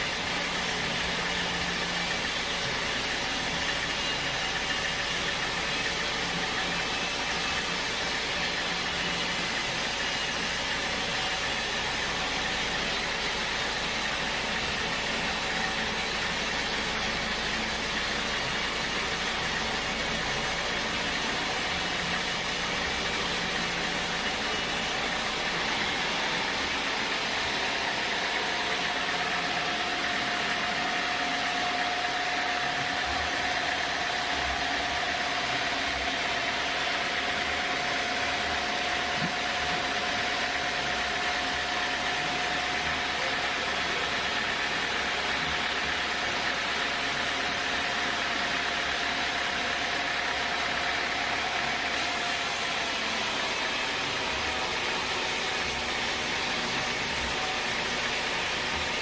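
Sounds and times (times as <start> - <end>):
machine whine: 0.0 - 59.0
sawmill machinery running: 0.0 - 59.0.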